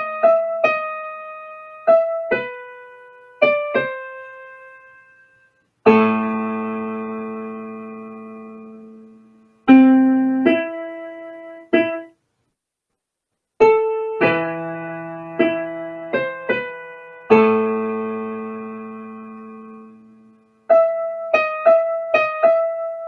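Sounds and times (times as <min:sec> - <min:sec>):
slow piano melody: 0:00.0 - 0:12.3, 0:13.6 - 0:23.0.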